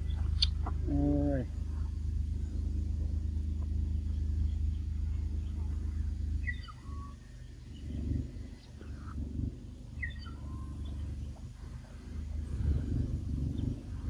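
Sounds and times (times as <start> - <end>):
bird chirping: 0.0 - 14.0
steady low rumble: 0.0 - 14.0.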